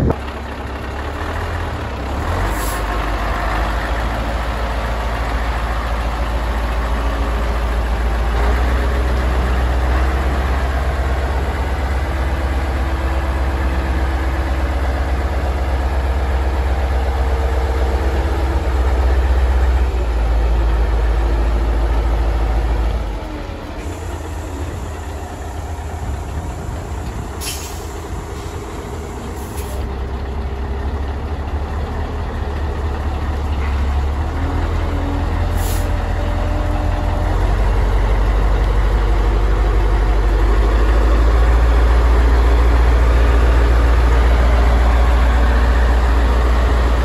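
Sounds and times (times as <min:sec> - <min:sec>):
diesel truck idling: 0:00.0 - 0:47.0.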